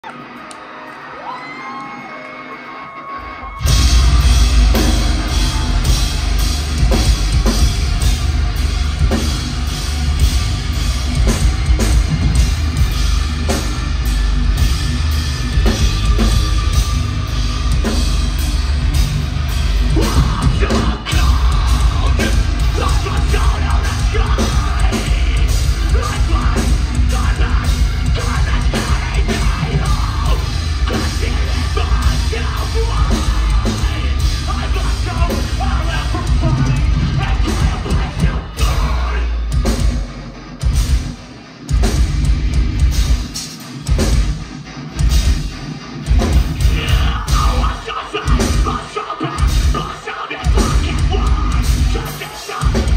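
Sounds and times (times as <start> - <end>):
crowd: 0.0 - 52.9
metal band playing live: 0.0 - 52.9.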